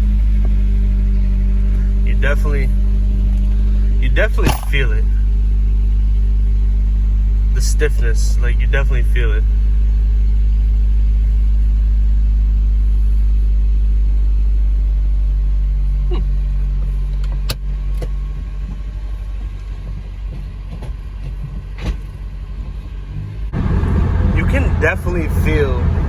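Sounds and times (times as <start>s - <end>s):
car engine drone and road noise: 0.0s - 26.0s.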